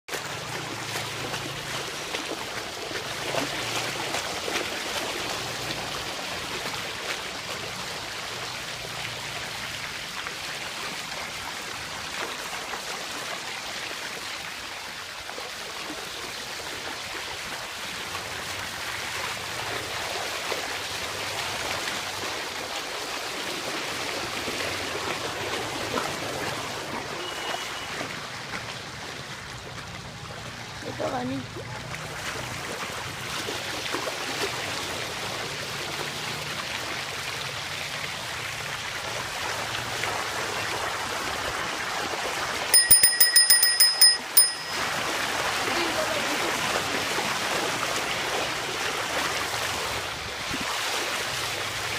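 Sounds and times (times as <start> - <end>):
rushing floodwater: 0.1 - 42.7, 44.4 - 51.9.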